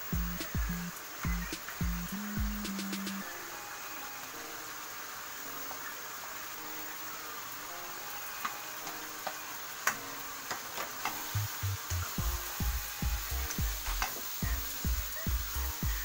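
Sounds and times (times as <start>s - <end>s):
food sizzling in wok: 0.0s - 16.0s.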